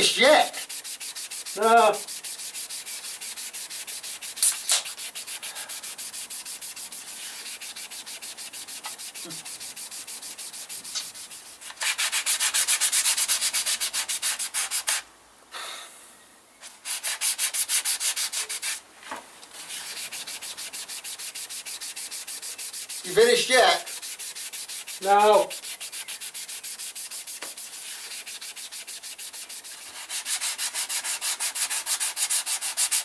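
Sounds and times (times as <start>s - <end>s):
sandpaper rubbing on plastic: 0.0s - 15.0s, 16.6s - 18.8s, 19.5s - 33.0s.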